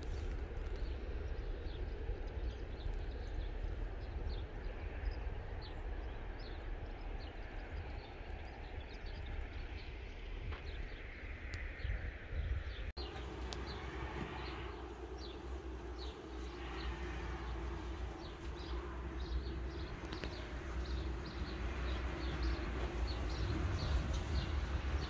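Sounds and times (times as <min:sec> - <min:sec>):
small birds chirping: 0:00.0 - 0:25.0
steady low rumble: 0:00.0 - 0:25.0.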